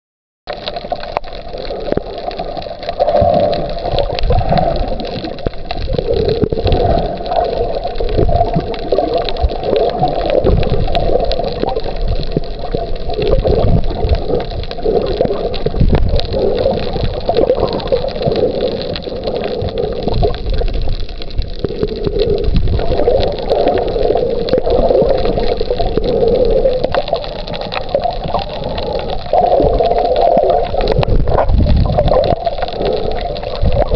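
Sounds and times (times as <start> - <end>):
underwater gurgling wash: 0.5 - 33.9.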